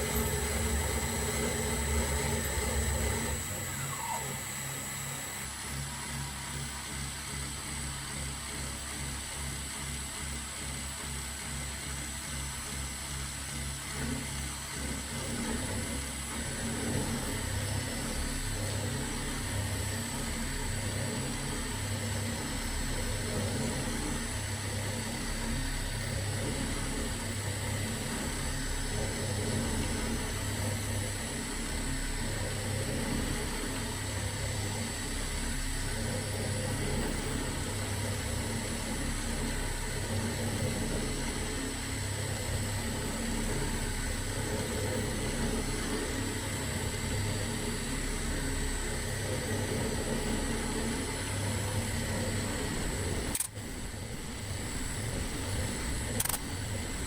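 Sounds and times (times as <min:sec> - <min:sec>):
milling machine high whine: 0:00.0 - 0:57.0.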